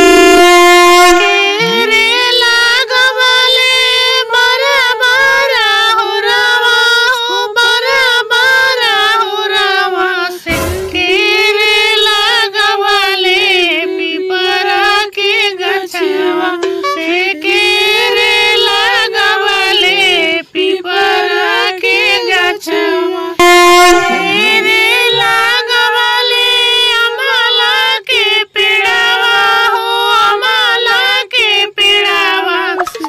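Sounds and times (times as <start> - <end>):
high voice singing folk song: 0.0 - 33.0.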